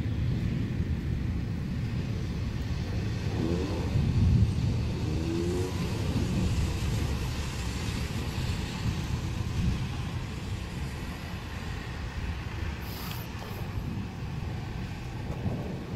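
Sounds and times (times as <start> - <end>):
rolling thunder: 0.0 - 12.7, 13.3 - 15.9.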